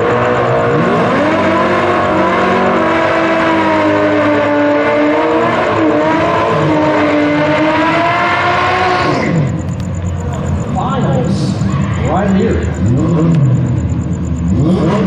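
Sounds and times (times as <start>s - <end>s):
drag race car engine revving: 0.0s - 15.0s.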